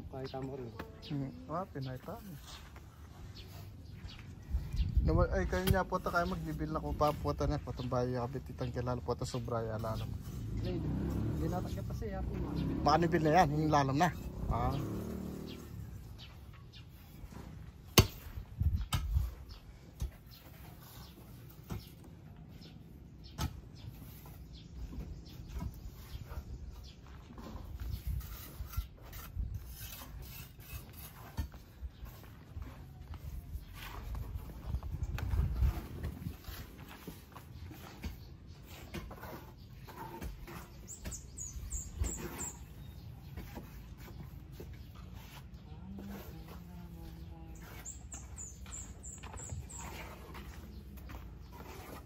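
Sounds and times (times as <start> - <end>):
trowel scraping mortar: 5.4 - 52.0.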